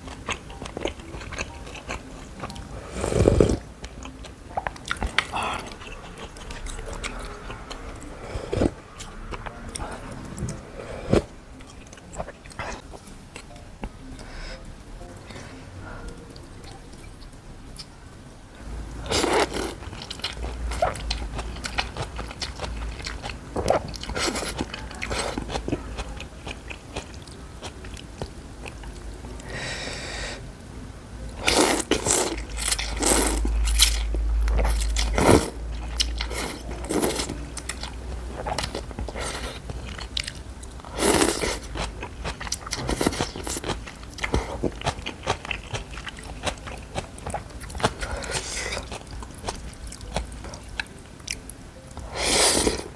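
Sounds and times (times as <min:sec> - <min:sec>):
slurping and chewing noodles: 0:00.0 - 0:13.0, 0:19.0 - 0:28.0, 0:31.4 - 0:51.4, 0:52.0 - 0:52.9.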